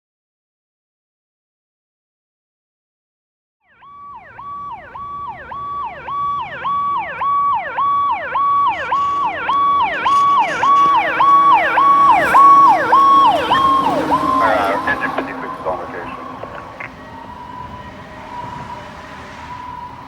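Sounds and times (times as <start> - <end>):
fire truck siren yelping: 3.7 - 20.0.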